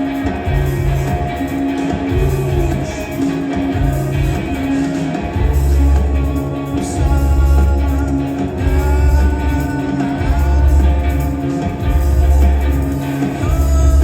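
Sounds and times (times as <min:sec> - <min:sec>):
deep bass notes: 0:00.0 - 0:14.0
live rock band playing: 0:00.0 - 0:14.0.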